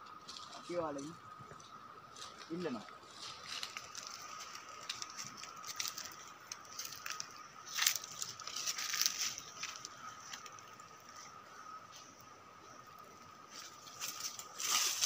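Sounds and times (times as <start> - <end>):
thin steady tone: 0.0 - 15.0
footsteps through dry brush: 0.1 - 12.2, 13.4 - 15.0.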